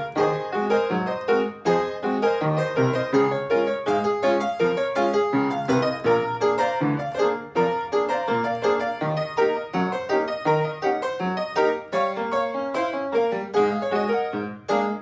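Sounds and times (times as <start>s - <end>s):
upright piano playing: 0.0s - 15.0s.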